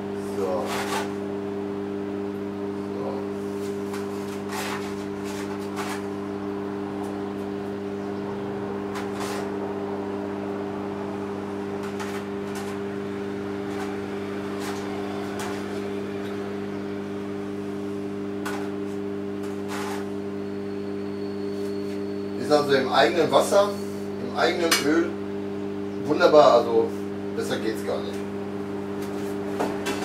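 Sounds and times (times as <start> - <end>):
low electrical appliance hum: 0.0 - 30.0.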